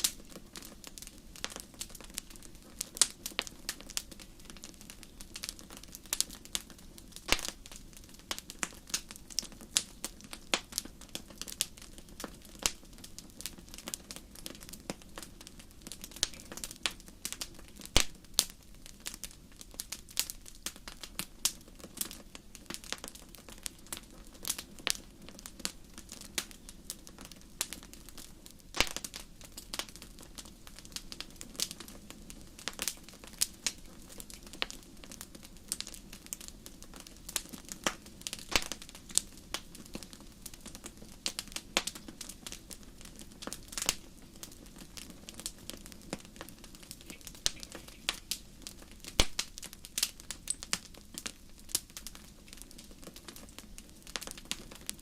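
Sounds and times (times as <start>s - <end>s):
fireplace fire crackling: 0.0s - 55.0s
low steady hiss: 0.0s - 55.0s.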